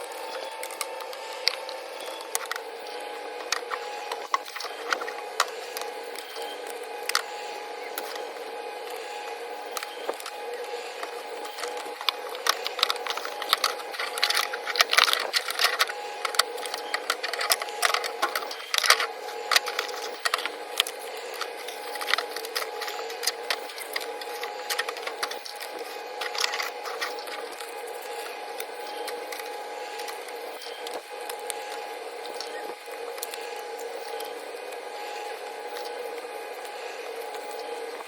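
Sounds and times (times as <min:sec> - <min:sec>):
packaging crackling and clicking: 0:00.0 - 0:38.0
steady background hum: 0:00.0 - 0:38.0.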